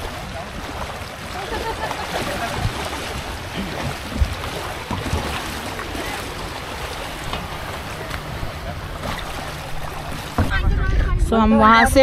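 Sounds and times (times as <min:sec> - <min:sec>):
sea water sloshing and splashing: 0:00.0 - 0:11.4
wind rumbling on microphone: 0:00.0 - 0:12.0.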